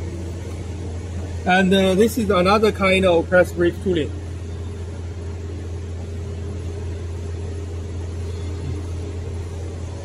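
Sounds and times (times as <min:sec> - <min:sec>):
faint steady tones: 0:00.0 - 0:10.0
hydraulic pump motor humming: 0:00.0 - 0:10.0.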